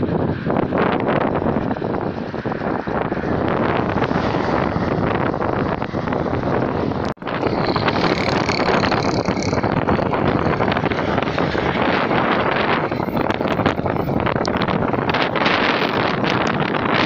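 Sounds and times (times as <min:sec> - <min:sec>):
strong gusting wind on microphone: 0:00.0 - 0:17.0.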